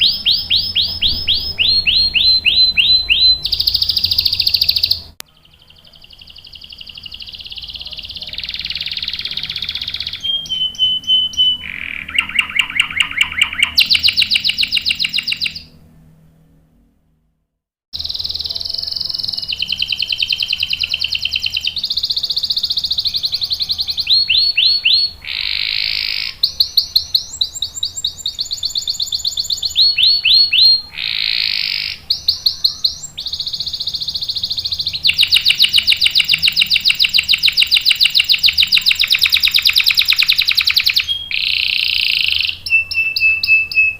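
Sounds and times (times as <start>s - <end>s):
canary singing trills: 0.0s - 15.8s, 18.0s - 43.9s.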